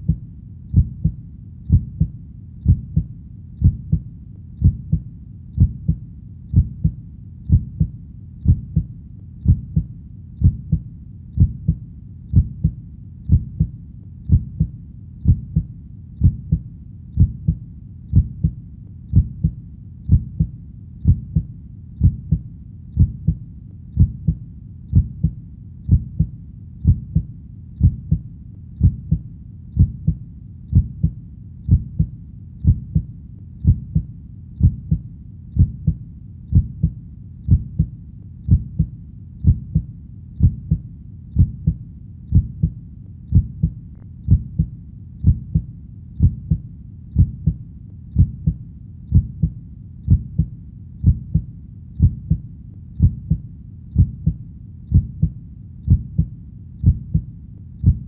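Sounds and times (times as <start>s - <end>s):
heartbeat lub-dub thumps: 0.0s - 58.0s.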